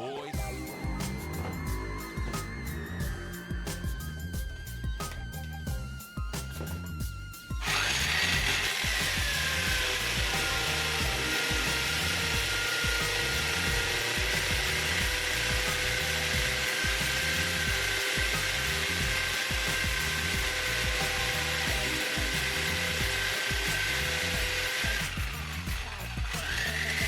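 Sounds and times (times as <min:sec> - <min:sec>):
background music: 0:00.0 - 0:27.0
electric drill boring through wall: 0:00.4 - 0:27.0.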